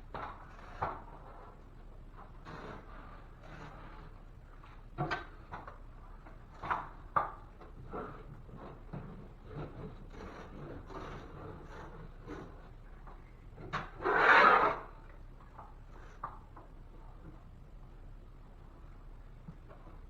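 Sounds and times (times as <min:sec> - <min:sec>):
rubbing and scraping on drywall: 0:00.1 - 0:17.6.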